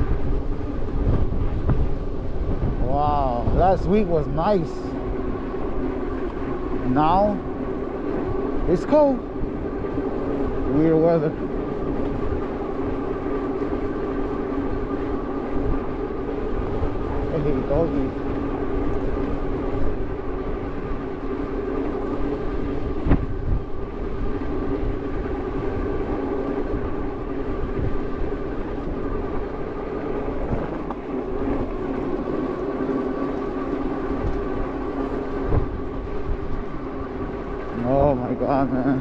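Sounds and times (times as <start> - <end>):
steady hum: 0.0 - 39.0
wind buffeting microphone: 0.0 - 39.0.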